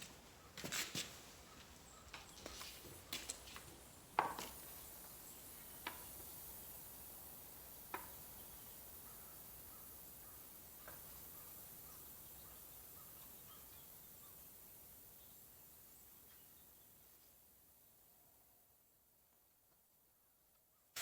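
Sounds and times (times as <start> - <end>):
faint steady hiss: 1.1 - 21.0.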